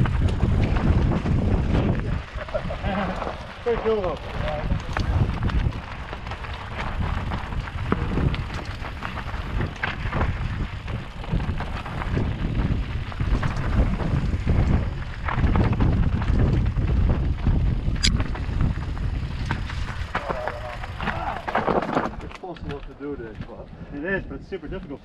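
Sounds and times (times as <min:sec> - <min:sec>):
bike tyres clicking and rattling: 0:00.0 - 0:25.0
wind buffeting microphone: 0:00.0 - 0:25.0.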